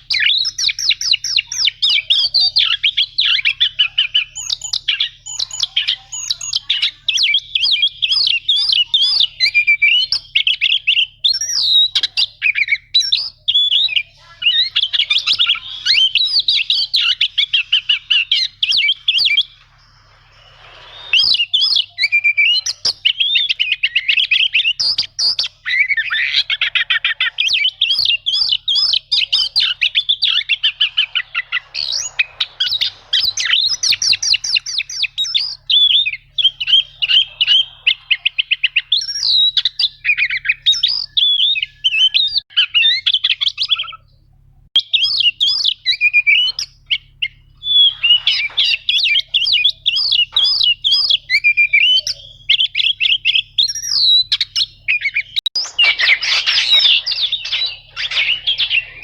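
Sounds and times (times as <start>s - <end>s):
bird singing trilled notes: 0.0s - 44.2s, 44.8s - 59.0s.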